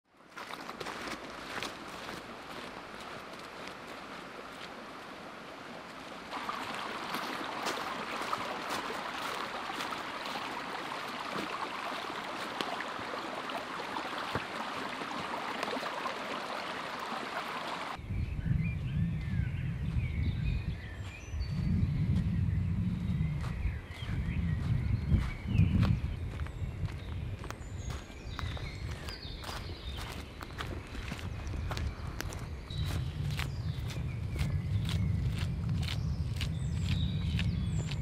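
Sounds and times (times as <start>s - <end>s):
stream trickling and gurgling: 0.1s - 18.1s, 20.7s - 38.0s
birds chirping: 6.4s - 38.0s.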